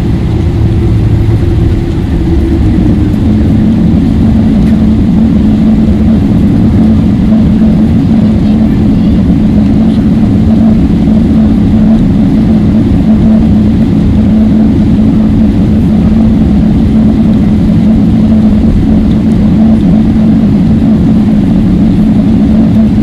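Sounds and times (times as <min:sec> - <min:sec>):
airplane cabin engine roar: 0:00.0 - 0:23.0
constant low hum: 0:00.0 - 0:23.0.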